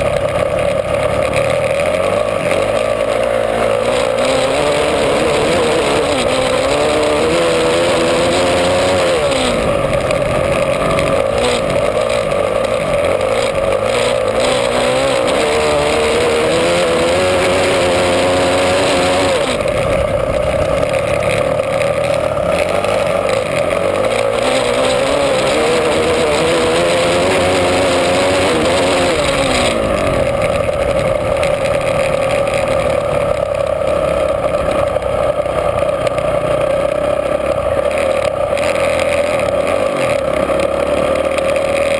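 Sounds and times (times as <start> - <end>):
motorcycle engine running hard: 0.0 - 41.9.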